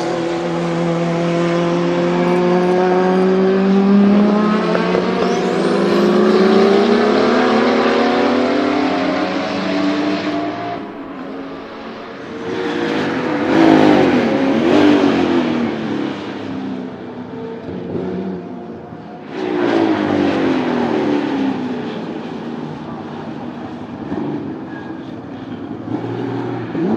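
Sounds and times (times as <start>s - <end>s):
race car accelerating: 0.0s - 26.9s.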